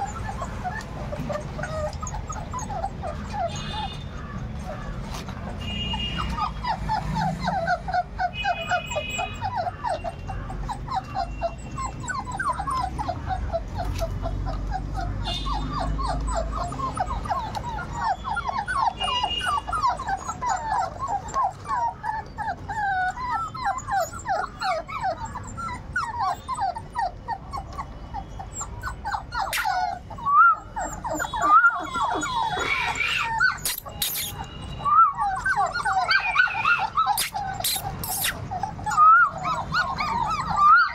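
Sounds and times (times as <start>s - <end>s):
puppies whimpering and squealing: 0.0s - 40.9s
puppies yelping: 0.0s - 40.9s.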